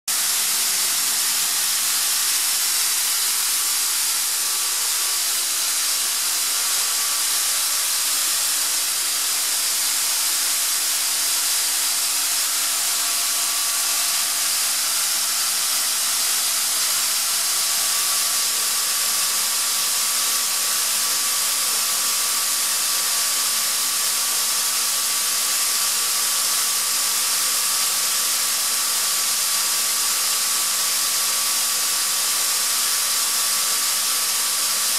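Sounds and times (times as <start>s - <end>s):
air compressor hissing: 0.1s - 34.9s.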